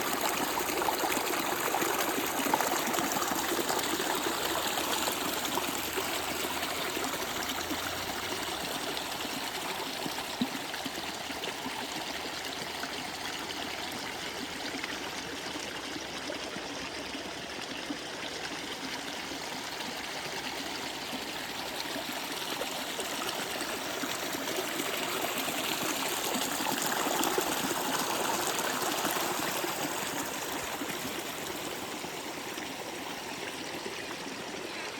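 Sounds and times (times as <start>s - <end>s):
running water: 0.0s - 34.9s.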